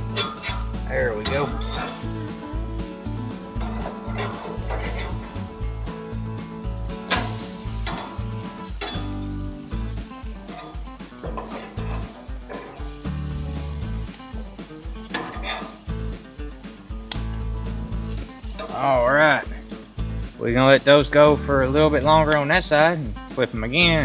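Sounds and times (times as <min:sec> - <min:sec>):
background music with low beat: 0:00.0 - 0:24.0
chicken sizzling on a grill: 0:00.0 - 0:24.0.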